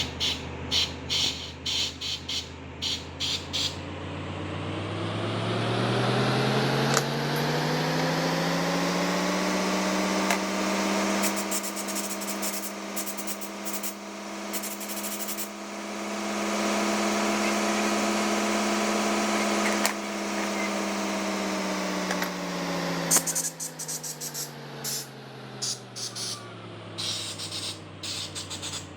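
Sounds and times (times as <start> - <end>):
motor machine humming: 0.0 - 28.9.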